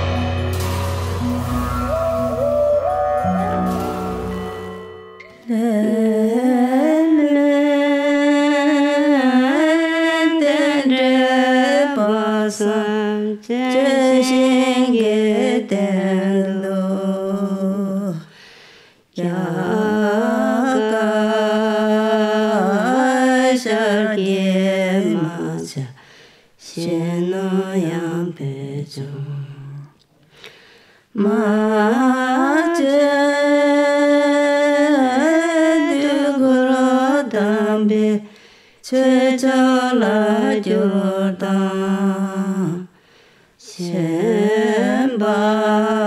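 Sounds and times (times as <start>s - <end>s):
person singing chant-like melody: 0.0s - 18.3s, 19.2s - 26.0s, 31.2s - 43.0s, 43.6s - 46.0s.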